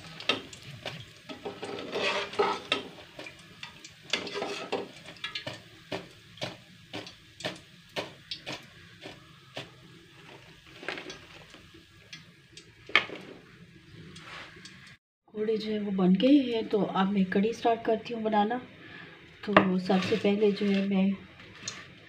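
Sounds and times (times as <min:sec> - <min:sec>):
oil sizzling faintly: 0:00.0 - 0:15.0, 0:16.2 - 0:22.0.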